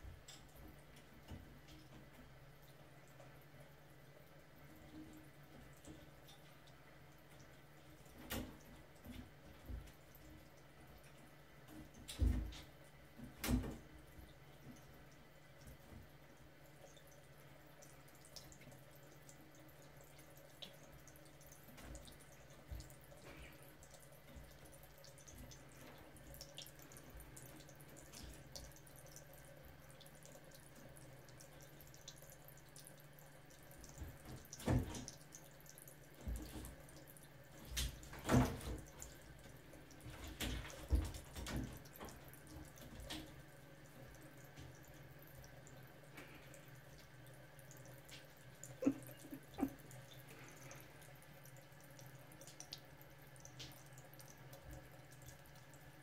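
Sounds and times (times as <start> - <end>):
faint steady hum and hiss: 0.0 - 56.0.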